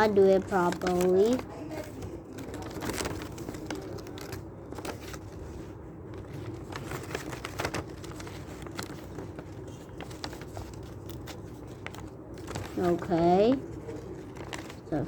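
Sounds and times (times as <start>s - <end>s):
paper clicks: 0.0s - 15.0s
paper rustling: 0.0s - 15.0s.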